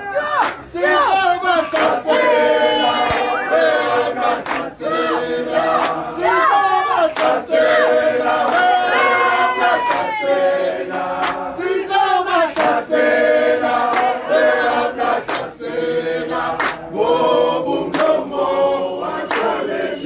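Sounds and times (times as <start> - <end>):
group of people singing: 0.0 - 20.0.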